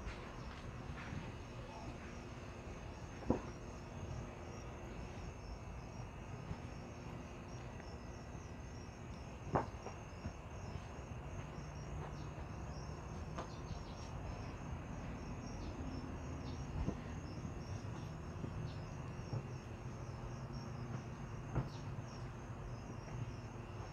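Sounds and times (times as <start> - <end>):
crickets chirping: 0.0 - 23.9.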